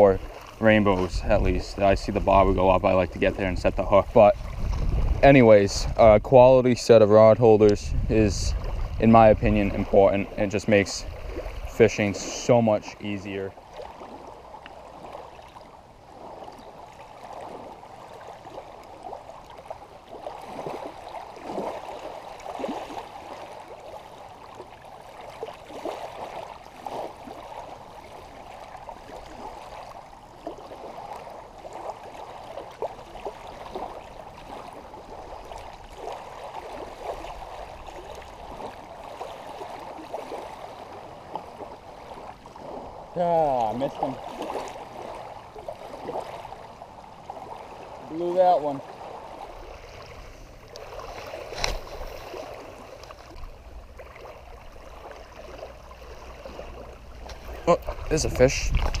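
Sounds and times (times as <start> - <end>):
small waves lapping on stones: 7.6 - 59.0.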